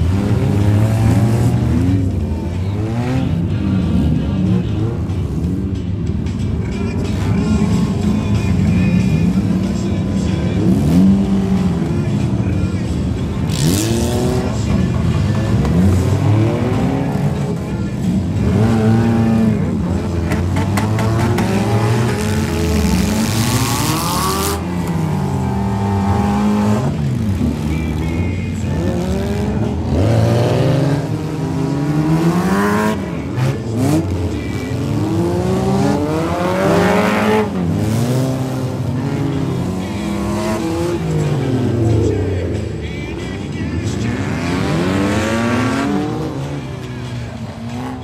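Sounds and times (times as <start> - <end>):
race car engines revving and passing: 0.0 - 48.0.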